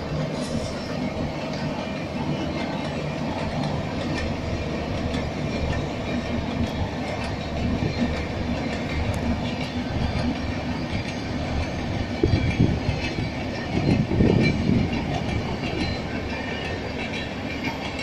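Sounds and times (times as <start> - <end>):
train rumbling: 0.0 - 18.0
wheels clacking over rail joints: 0.0 - 18.0.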